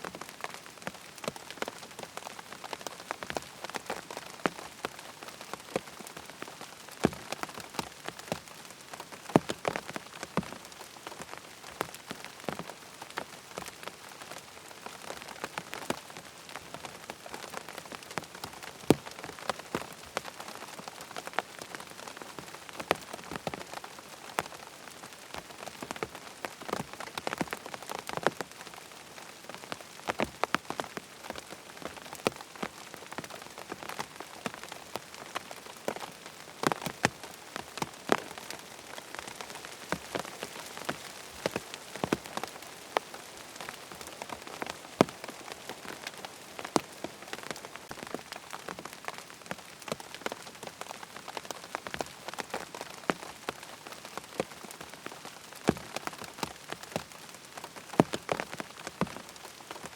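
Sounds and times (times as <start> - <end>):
rain on tent fabric: 0.0 - 59.9.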